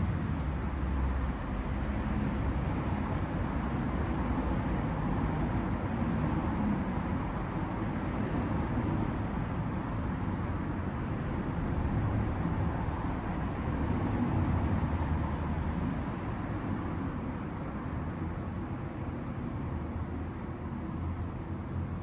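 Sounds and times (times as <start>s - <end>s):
wood fire burning in stove: 0.0s - 22.0s.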